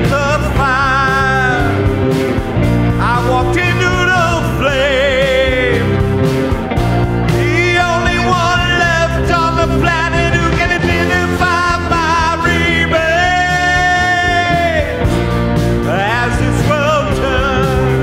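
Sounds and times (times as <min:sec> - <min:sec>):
song with singing: 0:00.0 - 0:18.0.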